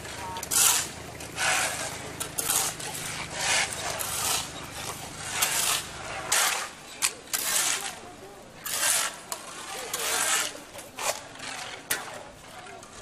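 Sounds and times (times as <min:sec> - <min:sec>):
shovels scraping mud on pavement: 0:00.0 - 0:13.0.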